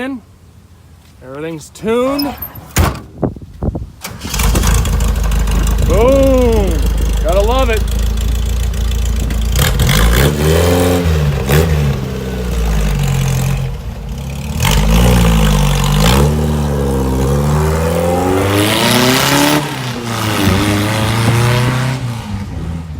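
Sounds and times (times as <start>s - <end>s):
engine revving: 4.1s - 22.9s.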